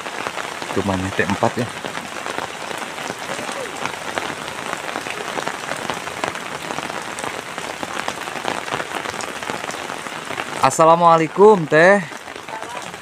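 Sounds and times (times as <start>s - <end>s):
raindrops hitting near microphone: 0.0s - 13.0s
steady rain falling: 0.0s - 13.0s.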